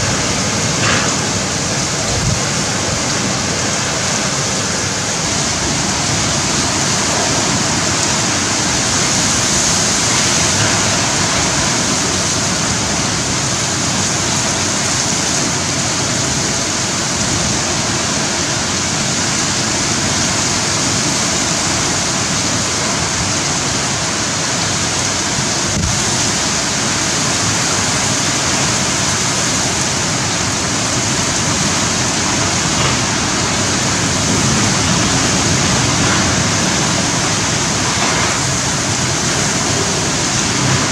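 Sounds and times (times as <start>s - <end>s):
heavy rain: 0.0s - 40.9s
storm wind rushing: 0.0s - 40.9s.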